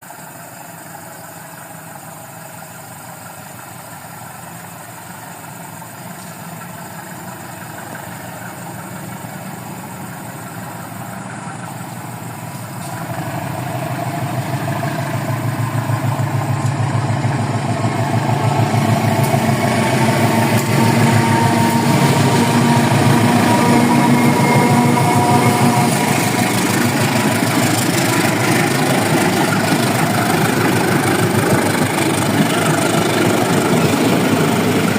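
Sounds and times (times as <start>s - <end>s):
locomotive engine drone: 0.0s - 34.9s
train rumble: 0.0s - 34.9s.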